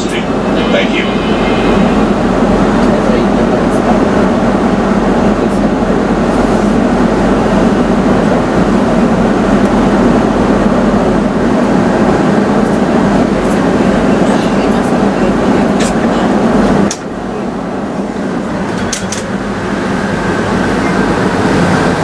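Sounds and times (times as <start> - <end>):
tram cabin rumble: 0.0 - 22.0.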